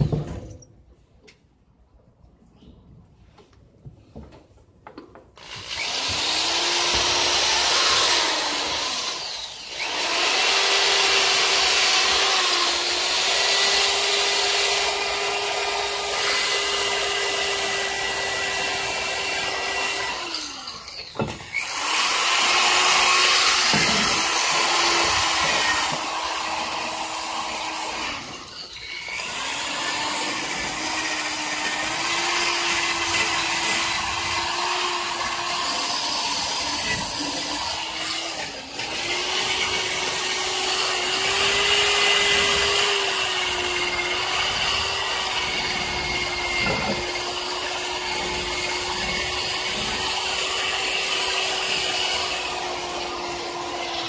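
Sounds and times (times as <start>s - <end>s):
electric drill stripping paint: 5.4s - 54.0s.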